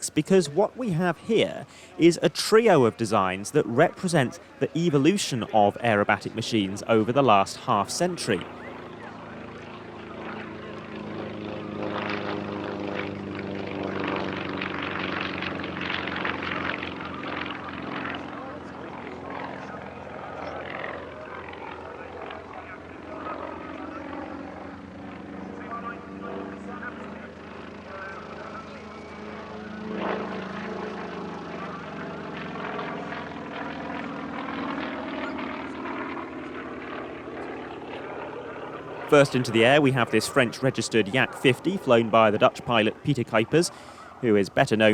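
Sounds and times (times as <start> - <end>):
propeller aircraft piston engine: 0.0 - 44.9.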